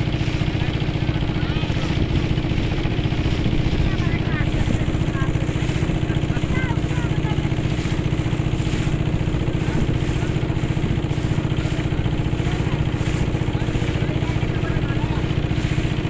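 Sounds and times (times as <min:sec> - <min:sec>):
boat motor chugging: 0:00.0 - 0:16.0.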